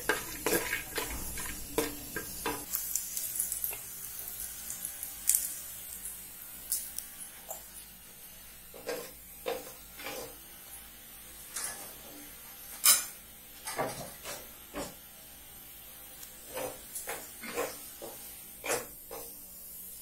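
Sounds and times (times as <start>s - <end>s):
nuts frying in oil: 0.0s - 20.0s.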